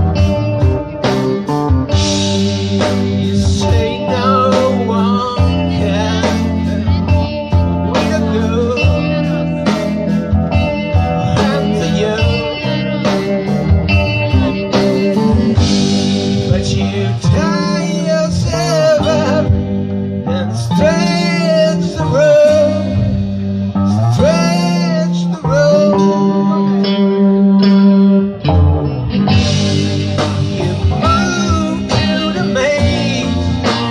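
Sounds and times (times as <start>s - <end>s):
guitar chords: 0.0s - 33.9s
person singing: 2.2s - 27.2s, 29.4s - 33.9s.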